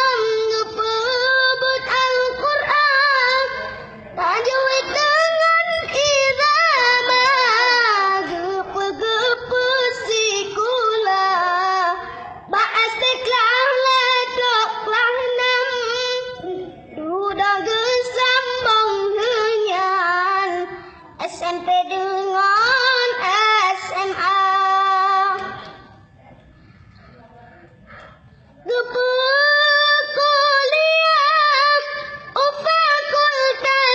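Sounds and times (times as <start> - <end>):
child singing alone: 0.0 - 25.6, 28.7 - 33.9.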